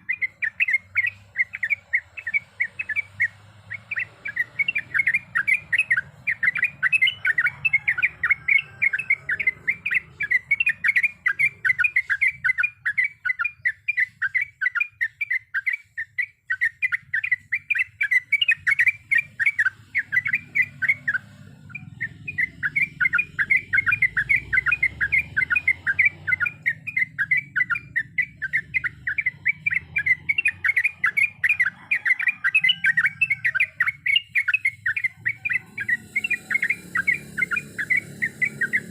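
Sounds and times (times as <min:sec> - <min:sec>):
bulbul singing rolling song: 0:00.0 - 0:38.9.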